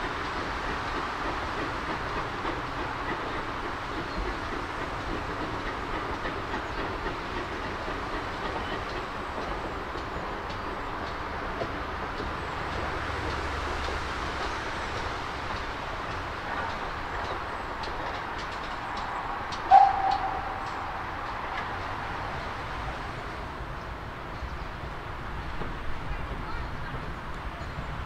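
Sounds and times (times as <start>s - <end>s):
steam train rolling past: 0.0s - 28.0s.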